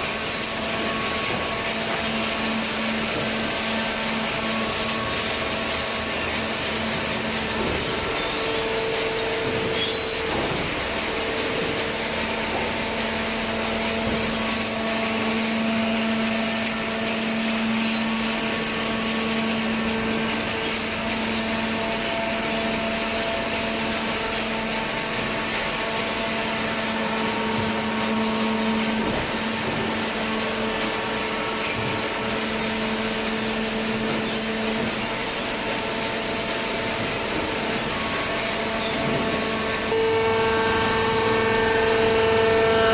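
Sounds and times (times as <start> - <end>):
hydraulic power unit humming: 0.0 - 42.9.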